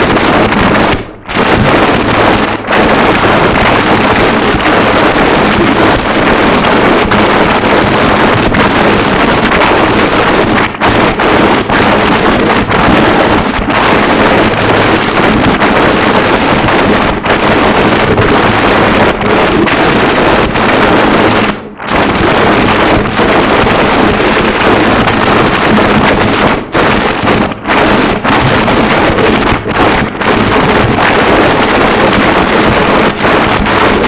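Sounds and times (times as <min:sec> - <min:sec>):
roar of distorted static: 0:00.0 - 0:34.0.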